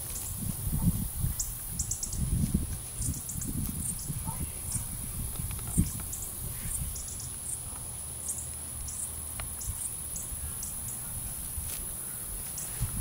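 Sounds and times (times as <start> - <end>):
steady low rumble: 0.0 - 13.0
ticks and rustles in grass: 0.0 - 13.0.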